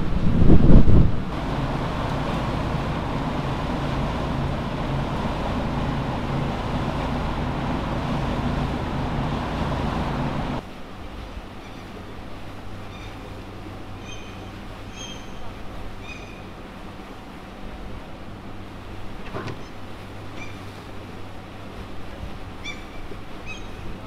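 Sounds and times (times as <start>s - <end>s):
ferry engine drone: 0.0s - 24.0s
rushing wind and water: 0.0s - 24.0s.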